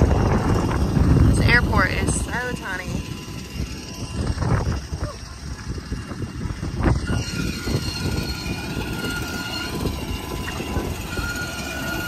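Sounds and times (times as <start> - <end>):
jet turbine whine: 0.0 - 12.0
wind buffeting microphone: 0.0 - 12.0.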